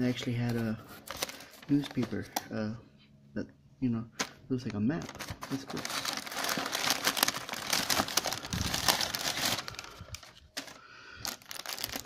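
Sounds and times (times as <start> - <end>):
packing paper crinkling: 0.0 - 2.6, 4.2 - 12.0.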